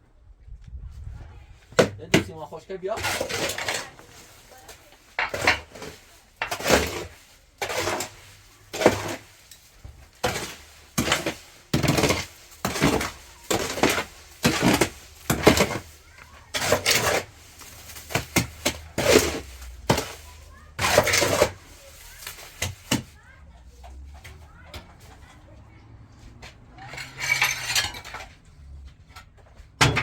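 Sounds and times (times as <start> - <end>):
hand tools knocking and scraping: 1.7 - 25.6, 26.3 - 30.0.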